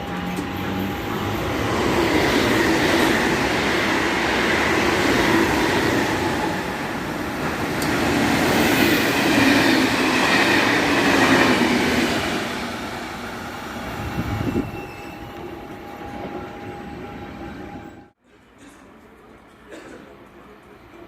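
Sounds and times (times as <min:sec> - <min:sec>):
train rumbling on rails: 0:00.0 - 0:18.2.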